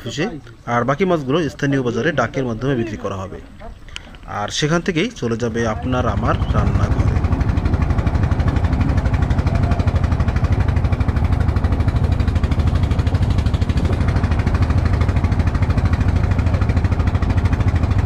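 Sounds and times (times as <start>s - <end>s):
boat engine chugging: 0.0s - 18.0s
water rushing past hull: 2.8s - 18.0s.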